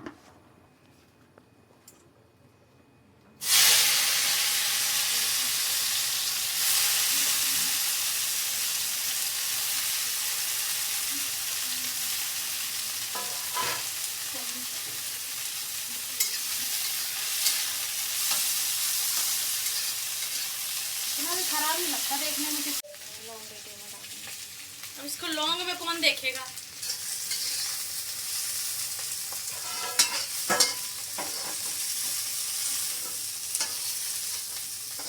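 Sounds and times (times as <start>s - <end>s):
vegetables sizzling in hot oil: 3.4s - 35.0s.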